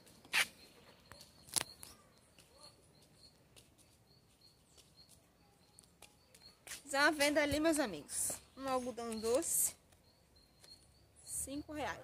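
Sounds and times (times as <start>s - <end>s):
small bird chirping faintly: 0.0s - 12.0s.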